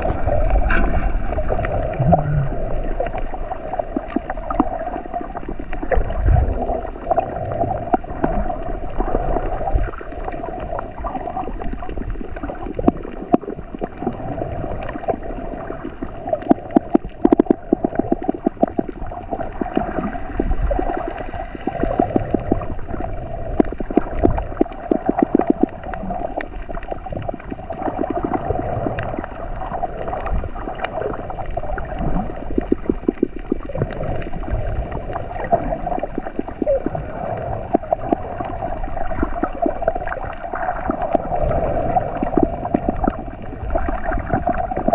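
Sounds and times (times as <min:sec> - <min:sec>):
rapid underwater clicks: 0:00.0 - 0:44.9
underwater gurgling and bubbling: 0:00.0 - 0:44.9.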